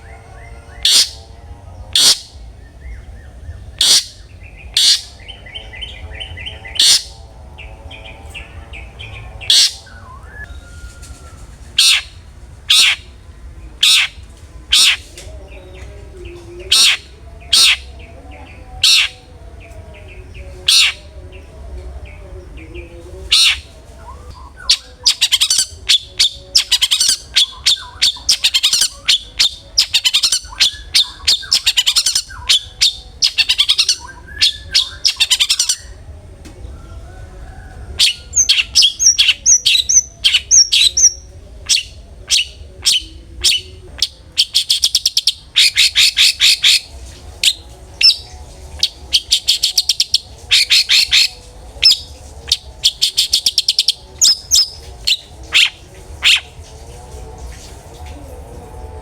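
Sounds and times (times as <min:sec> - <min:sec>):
shrike singing sharp calls: 0:00.0 - 0:36.0, 0:36.9 - 0:56.6.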